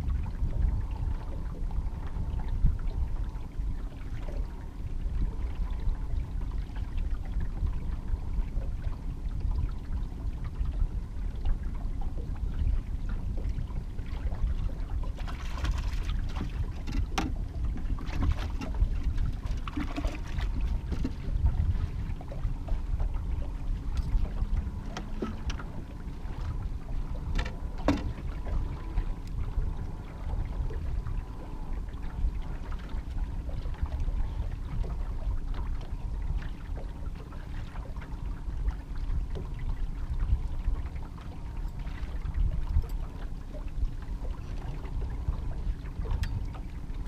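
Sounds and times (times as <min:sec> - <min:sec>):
small boat engine rumble: 0:00.0 - 0:47.0
wind buffeting microphone: 0:00.0 - 0:47.0.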